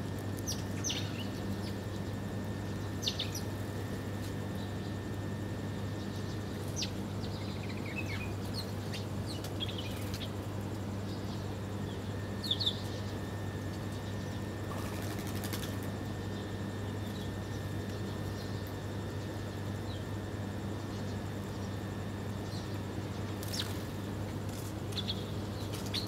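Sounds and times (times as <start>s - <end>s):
low background hum: 0.0s - 26.0s
sparrows chirping: 0.2s - 26.0s.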